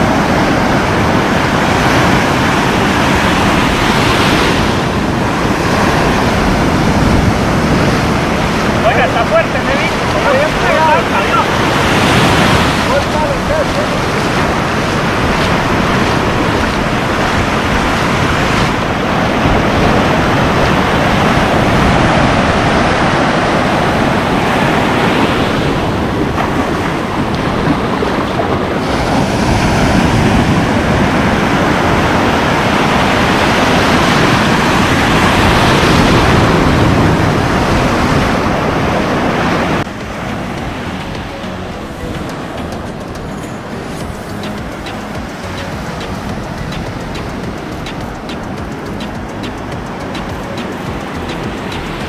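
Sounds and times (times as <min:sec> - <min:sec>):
surf breaking on beach: 0:00.0 - 0:52.0
wind buffeting microphone: 0:00.0 - 0:52.0.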